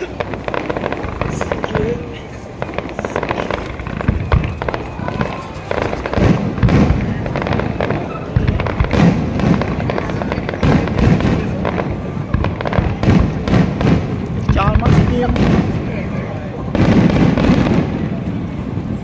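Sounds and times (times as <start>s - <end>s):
fireworks cracks and pops: 0.0s - 19.0s
fireworks deep booms: 0.0s - 19.0s.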